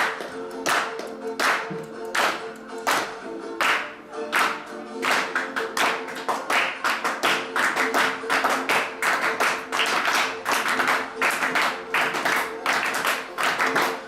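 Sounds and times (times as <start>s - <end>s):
rhythmic percussive strikes: 0.0s - 14.0s.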